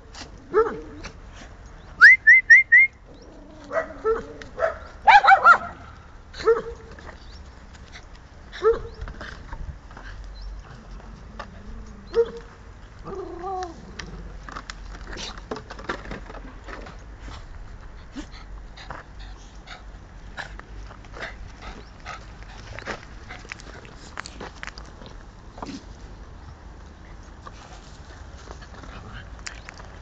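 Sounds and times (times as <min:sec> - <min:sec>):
paws on gravel: 0:03.2 - 0:30.0.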